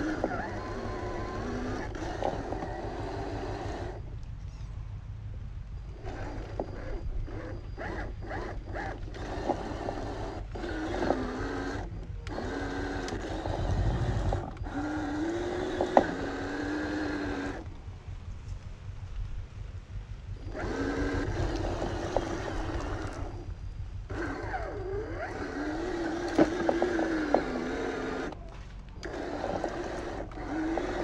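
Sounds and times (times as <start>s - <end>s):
rc crawler motor whining: 0.0s - 4.8s, 5.7s - 19.4s, 20.2s - 31.0s.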